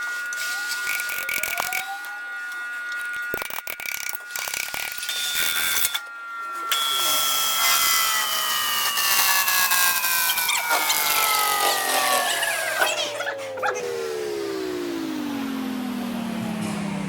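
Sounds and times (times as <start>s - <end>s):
metal-cutting machine whining: 0.0s - 17.0s.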